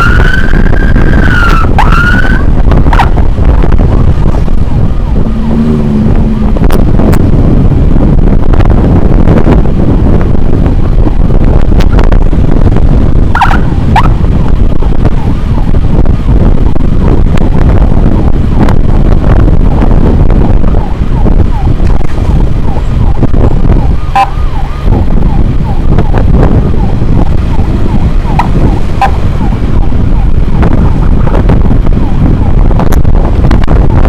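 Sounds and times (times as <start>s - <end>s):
motorcycle riding at speed: 0.0s - 34.0s
traffic noise: 0.0s - 34.0s
wind rumble on microphone: 0.0s - 34.0s.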